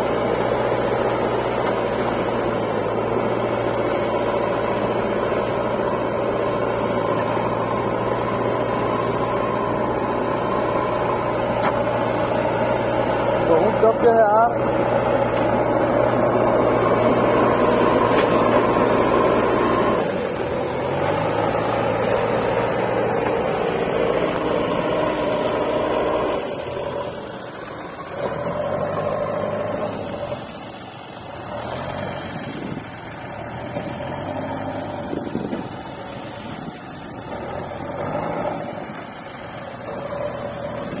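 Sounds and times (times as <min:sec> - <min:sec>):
backhoe loader diesel engine: 0:00.0 - 0:41.0
tractor engine running: 0:00.0 - 0:41.0.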